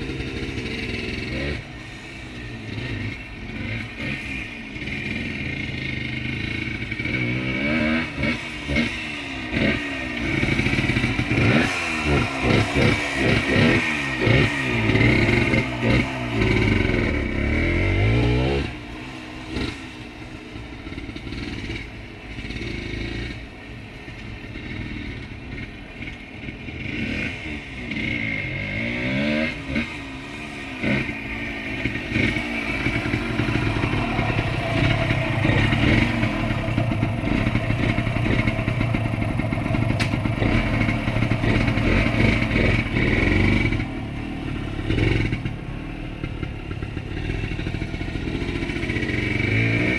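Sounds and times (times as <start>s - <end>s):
two-stroke motorcycle engine: 0.0s - 49.9s.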